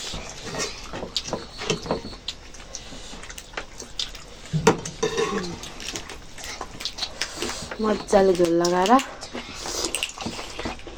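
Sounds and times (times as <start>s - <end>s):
wet chewing and smacking: 0.0s - 10.9s.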